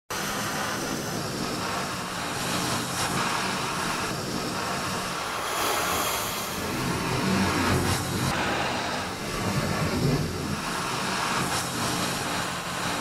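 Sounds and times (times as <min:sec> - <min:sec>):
strong storm wind rushing: 0:00.2 - 0:13.0.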